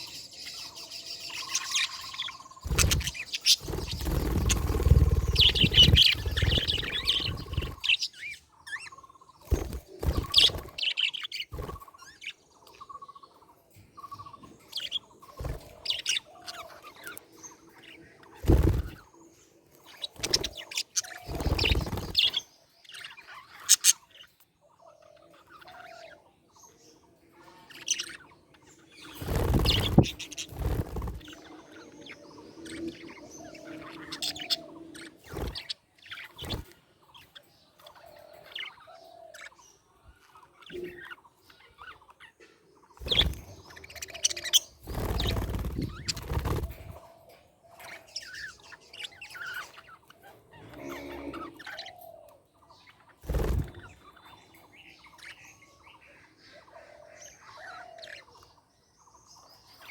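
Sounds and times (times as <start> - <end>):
budgerigars chirping: 0.0 - 19.2, 19.8 - 59.9.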